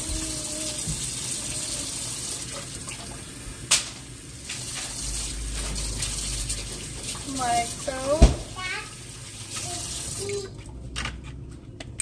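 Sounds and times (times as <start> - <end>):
tap water filling plastic bottle: 0.0 - 11.0.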